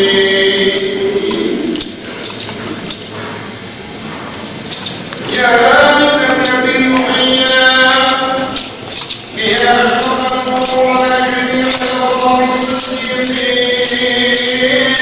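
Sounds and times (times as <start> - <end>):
chanting voice: 0.0 - 3.1, 5.2 - 15.0
light metallic jingling: 0.0 - 15.0.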